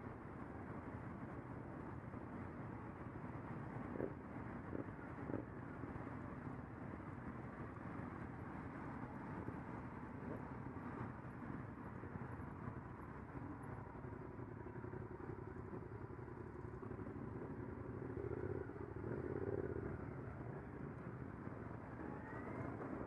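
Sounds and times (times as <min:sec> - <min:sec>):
muffled motorcycle engines droning: 0:00.0 - 0:23.0.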